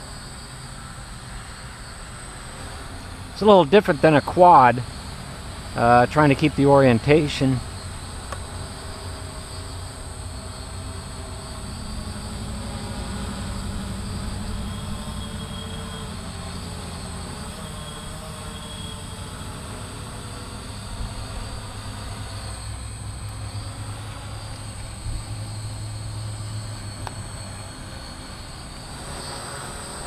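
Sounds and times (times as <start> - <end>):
drone motors hovering: 0.0 - 30.0.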